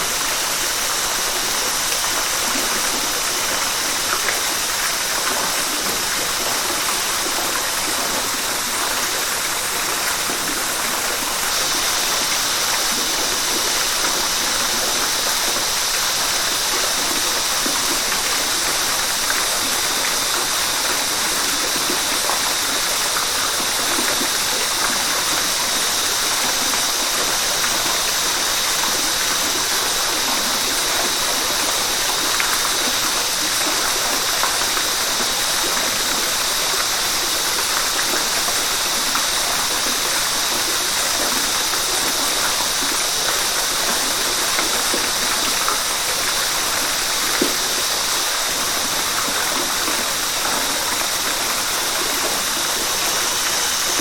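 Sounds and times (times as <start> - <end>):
high hiss: 0.0 - 54.0.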